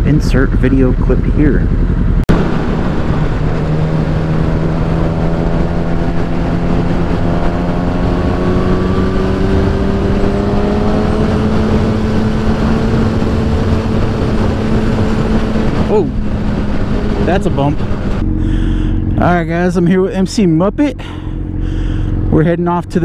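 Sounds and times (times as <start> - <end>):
wind rushing on microphone: 0.0 - 20.3.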